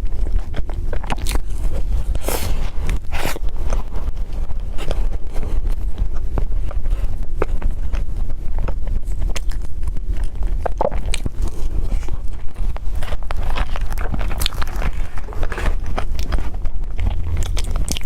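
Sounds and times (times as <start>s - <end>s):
chewing and biting: 0.0s - 18.0s
crunchy clicks and smacks: 0.0s - 18.0s
steady low hum: 0.0s - 18.0s.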